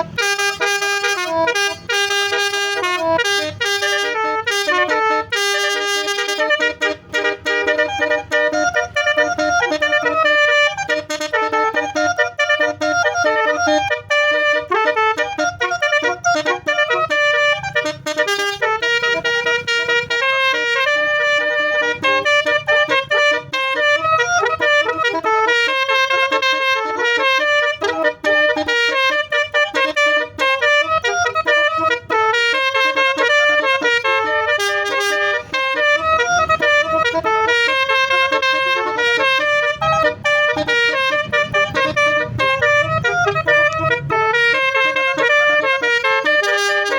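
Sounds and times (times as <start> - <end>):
melodic air horn playing tune: 0.0 - 46.9.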